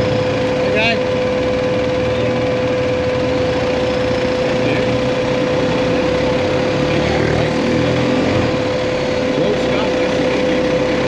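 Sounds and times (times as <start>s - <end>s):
motorcycle engine running: 0.0s - 11.0s
steady hum: 0.0s - 11.0s.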